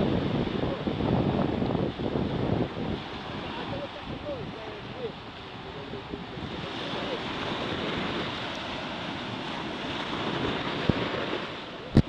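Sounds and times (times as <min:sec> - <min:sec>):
waves breaking in shallows: 0:00.0 - 0:12.0.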